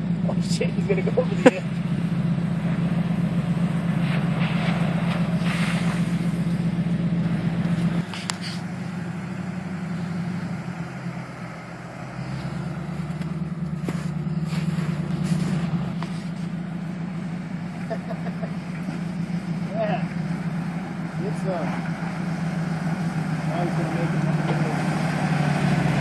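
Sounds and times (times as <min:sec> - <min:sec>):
car engine driving through snow: 0:00.0 - 0:26.0.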